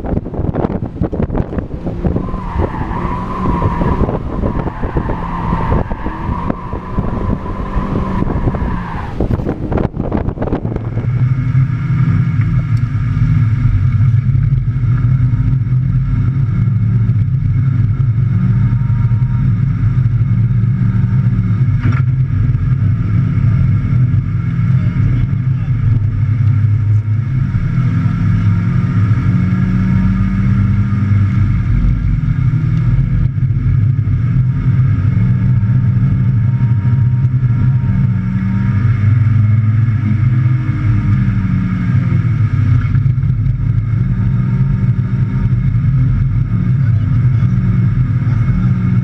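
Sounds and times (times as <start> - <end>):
car engine droning: 0.0 - 49.0.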